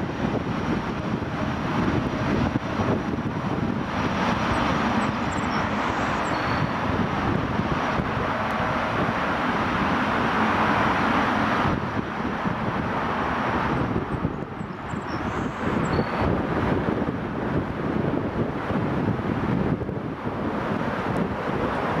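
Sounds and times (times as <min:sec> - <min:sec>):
jet engine whoosh: 0:00.0 - 0:22.0.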